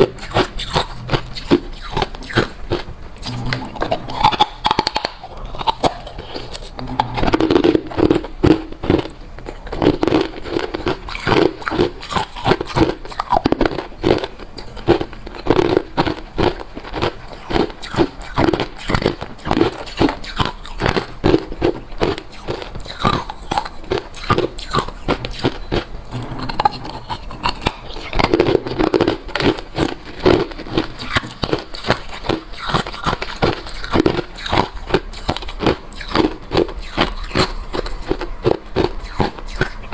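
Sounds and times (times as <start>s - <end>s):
person chewing crushed ice: 0.0s - 39.9s.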